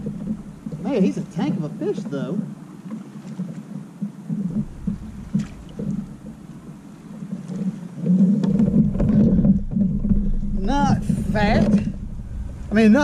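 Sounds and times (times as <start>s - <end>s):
water lapping against hull: 0.0s - 13.0s
wind rumbling on microphone: 0.0s - 13.0s.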